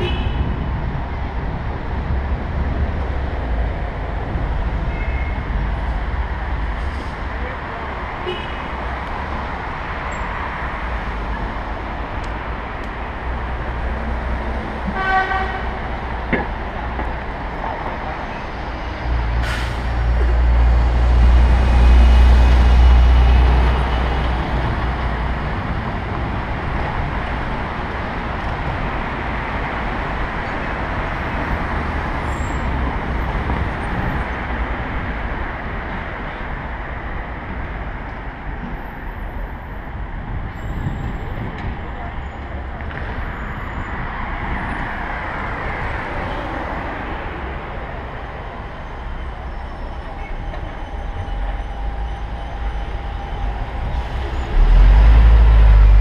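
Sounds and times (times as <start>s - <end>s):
bus passing with low rumble: 0.0s - 56.0s
road noise from bicycle: 0.0s - 56.0s.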